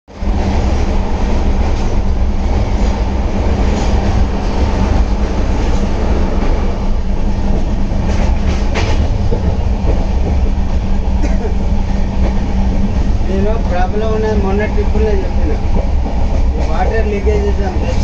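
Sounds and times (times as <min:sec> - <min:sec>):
train wheels rumbling on rails: 0:00.1 - 0:18.0.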